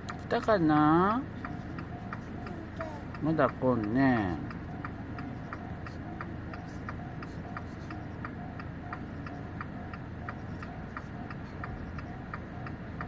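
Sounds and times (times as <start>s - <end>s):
level crossing warning bell: 0.3s - 13.0s.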